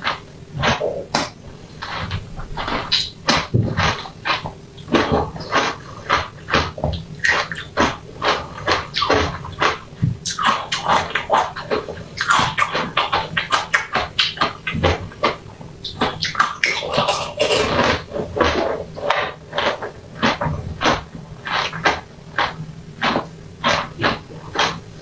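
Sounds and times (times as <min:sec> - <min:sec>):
mouth biting and chewing: 0:00.0 - 0:24.9.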